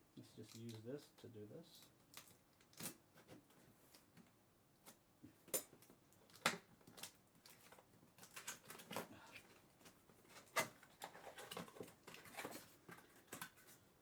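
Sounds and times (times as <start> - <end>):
small rustles and taps: 0.4 - 13.9.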